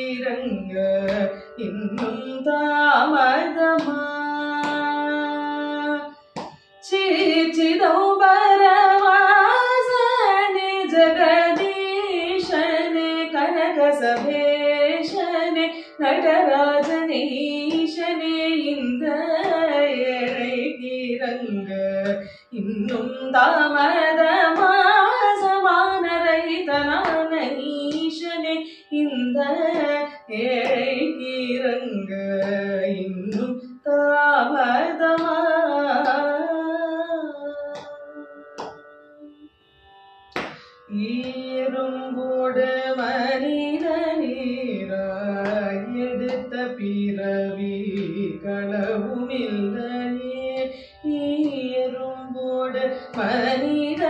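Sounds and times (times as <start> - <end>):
woman singing: 0.0 - 6.2, 6.8 - 39.4, 40.9 - 54.0.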